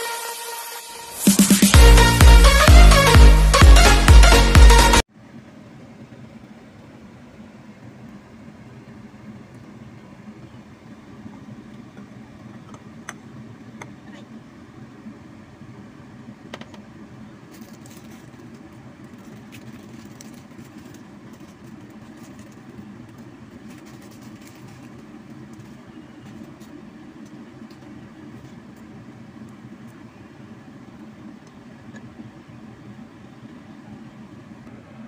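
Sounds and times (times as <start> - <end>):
water boiling in a pot: 5.1 - 17.5, 18.3 - 34.6.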